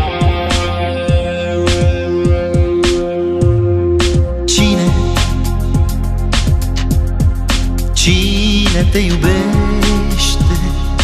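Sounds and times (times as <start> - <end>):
pop song chords: 0.0 - 11.0.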